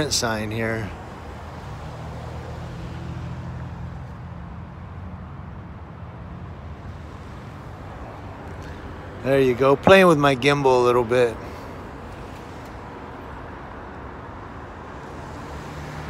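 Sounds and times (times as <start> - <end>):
road traffic noise: 0.0 - 16.0
vehicle engine humming: 0.0 - 16.0.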